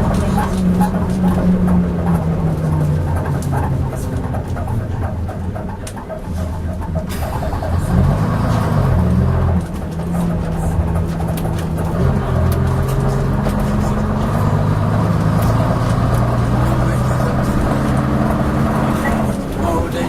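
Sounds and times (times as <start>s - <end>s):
bus diesel engine: 0.0s - 20.0s
bus knocks and rattles: 0.0s - 20.0s.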